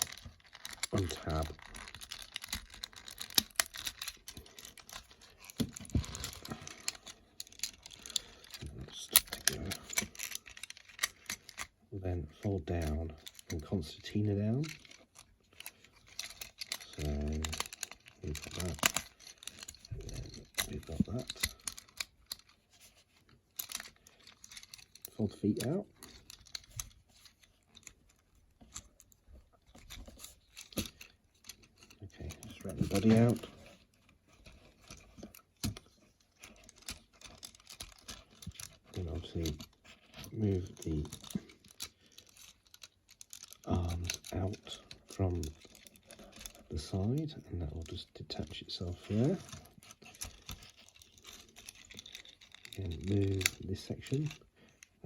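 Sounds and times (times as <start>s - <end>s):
plastic toy parts clicking: 0.0s - 11.8s, 12.7s - 55.0s.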